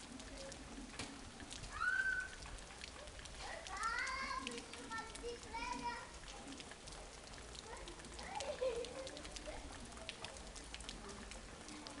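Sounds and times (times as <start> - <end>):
sharp drip ticks: 0.0 - 12.0
steady rain falling: 0.0 - 12.0.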